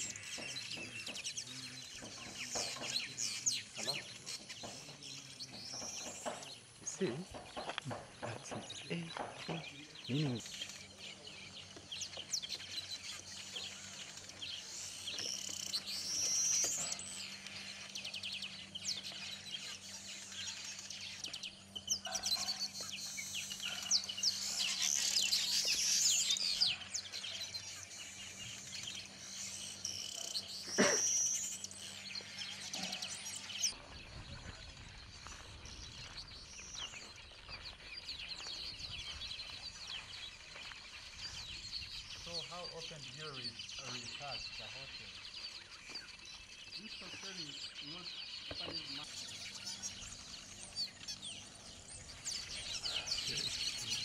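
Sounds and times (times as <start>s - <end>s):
weaver birds chattering: 0.0s - 54.0s.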